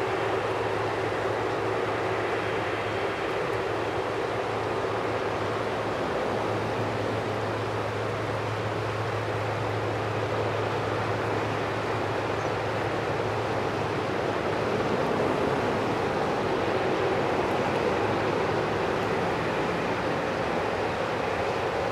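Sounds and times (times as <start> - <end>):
jet engines running: 0.0 - 21.9.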